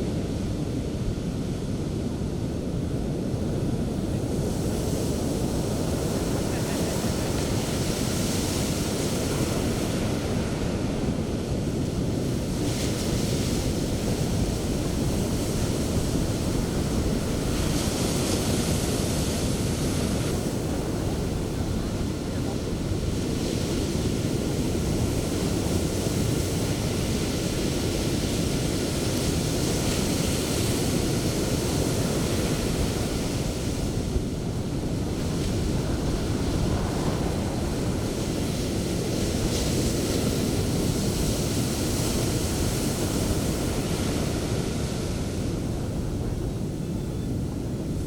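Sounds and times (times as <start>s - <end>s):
waves breaking on beach: 0.0s - 48.0s
wind buffeting microphone: 0.1s - 48.0s.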